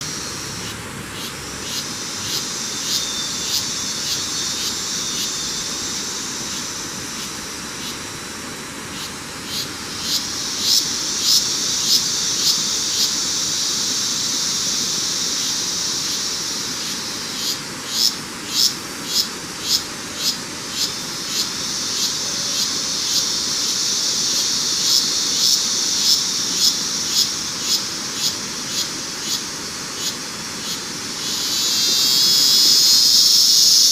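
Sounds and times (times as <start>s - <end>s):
high-pitched insect drone: 0.0s - 33.9s
sharp short insect call: 0.0s - 33.9s.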